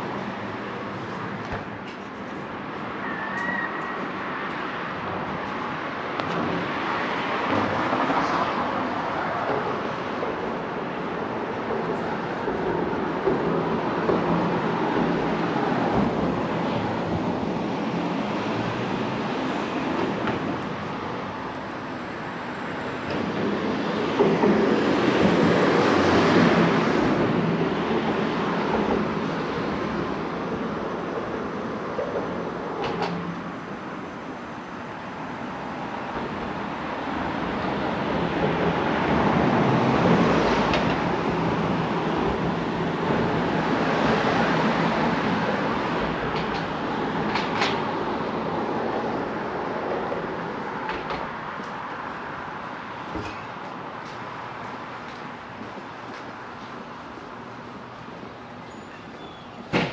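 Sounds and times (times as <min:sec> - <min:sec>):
cars rumbling past: 0:00.0 - 0:58.6.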